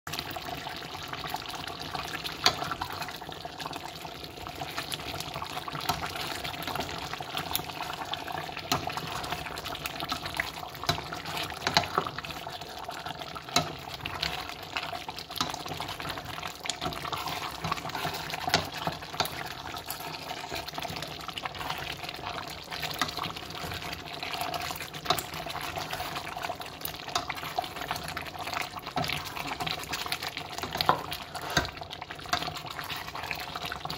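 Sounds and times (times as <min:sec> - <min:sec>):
spoon stirring thick sauce: 0:04.6 - 0:33.9.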